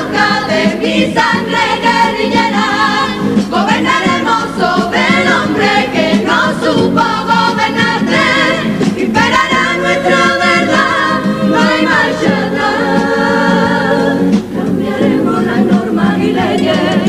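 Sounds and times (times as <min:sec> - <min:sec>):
choir singing: 0:00.0 - 0:17.0
guitars: 0:00.0 - 0:17.0.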